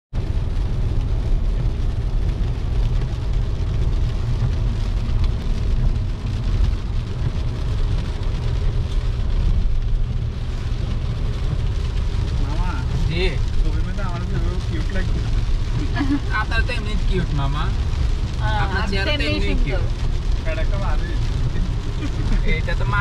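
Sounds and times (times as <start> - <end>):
rain on car: 0.1 - 23.0
road and engine rumble: 0.1 - 23.0
tyres hissing on wet asphalt: 0.2 - 23.0.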